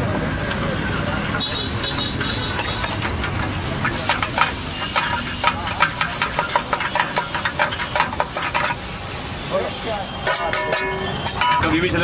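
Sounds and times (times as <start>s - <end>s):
frying hiss: 0.0s - 12.0s
metal spatula scraping wok: 0.9s - 9.1s, 10.0s - 12.0s.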